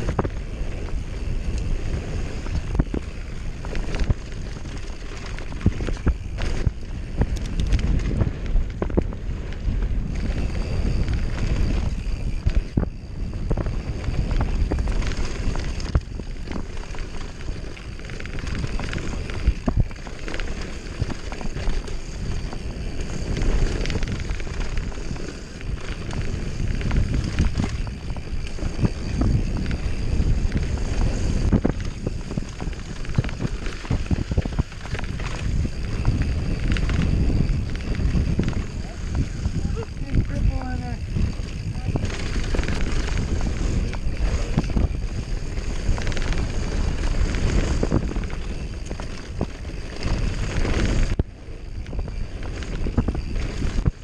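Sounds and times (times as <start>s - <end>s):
bike knocks and rattles: 0.0s - 54.0s
tyres rumbling over dirt: 0.0s - 54.0s
wind buffeting microphone: 0.0s - 54.0s.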